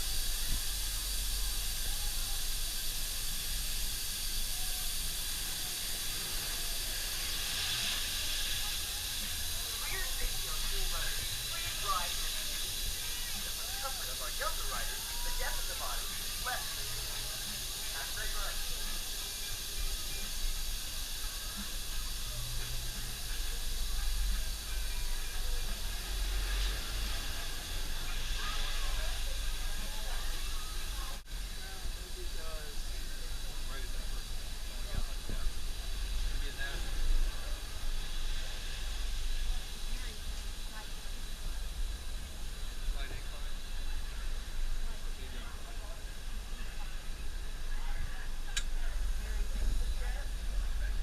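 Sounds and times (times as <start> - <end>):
broadband hiss: 0.0 - 51.0
constant low rumble: 0.0 - 51.0.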